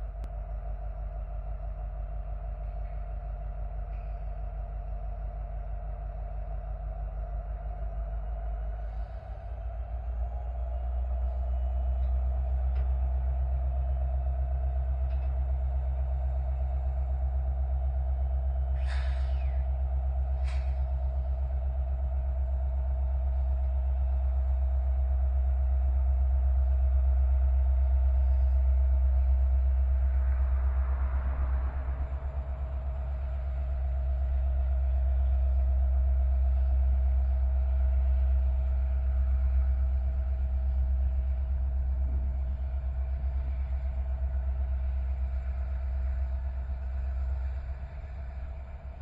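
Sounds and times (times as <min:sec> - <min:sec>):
diesel locomotive engine rumble: 0:00.0 - 0:49.0.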